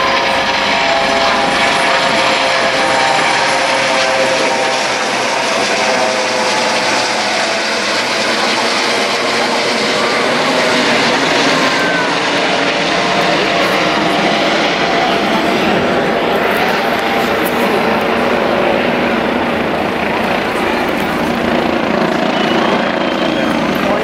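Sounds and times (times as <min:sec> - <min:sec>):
helicopter rotor and turbine drone: 0:00.0 - 0:24.0.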